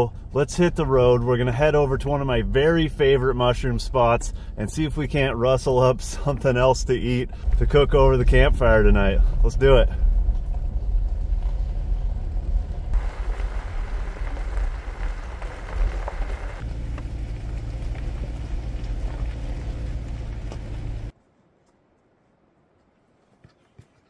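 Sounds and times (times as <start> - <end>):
vehicle driving on gravel: 0.0 - 21.2.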